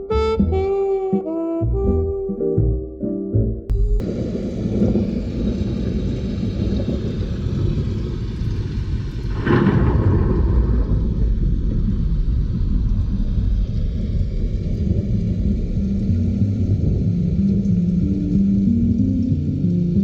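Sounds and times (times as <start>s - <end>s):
deep rumbling through car speakers: 3.7s - 20.0s.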